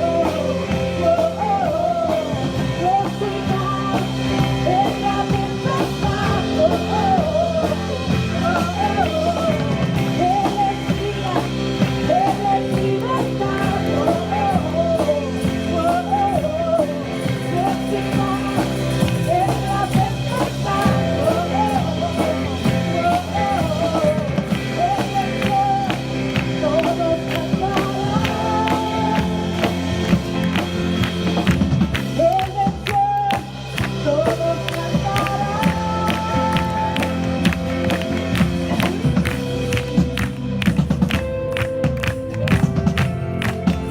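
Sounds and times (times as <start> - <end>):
rock song with singing and guitar: 0.0 - 43.9.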